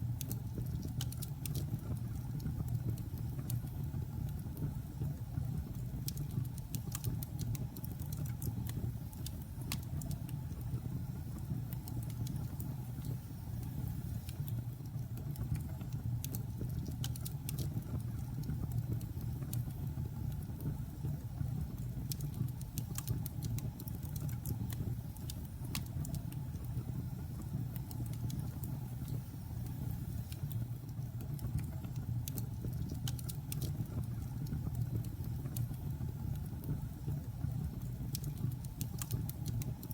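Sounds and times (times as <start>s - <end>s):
wood crackling and popping: 0.0s - 10.7s, 11.4s - 39.9s.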